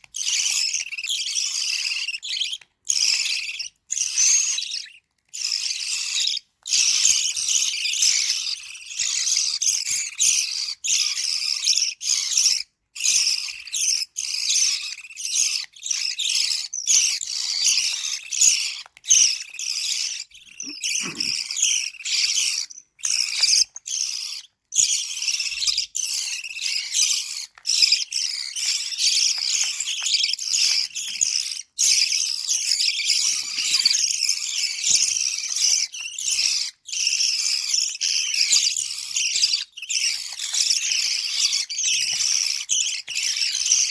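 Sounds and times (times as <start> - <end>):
lovebird chicks begging calls: 0.1 - 43.9.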